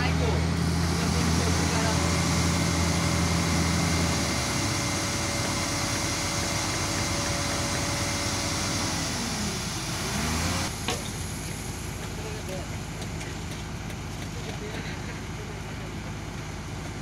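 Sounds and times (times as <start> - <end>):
concrete mixer truck engine: 0.0 - 17.0
excavator diesel engine: 0.0 - 17.0.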